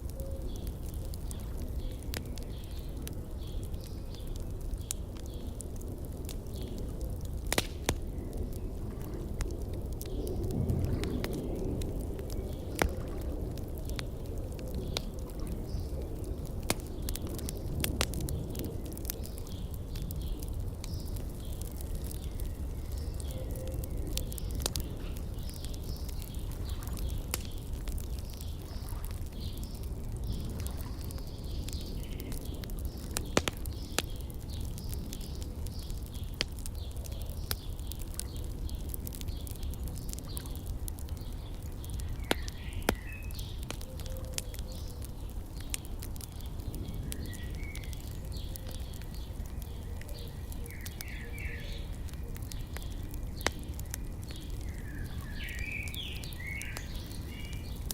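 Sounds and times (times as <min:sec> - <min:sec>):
wood fire crackling and popping: 0:00.0 - 0:57.9
small birds chirping: 0:00.1 - 0:57.9.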